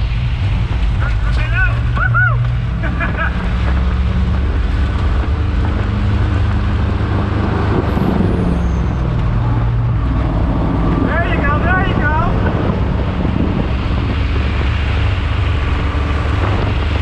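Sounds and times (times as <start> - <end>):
race car engine at speed: 0.0 - 17.0
wind and road noise: 0.0 - 17.0.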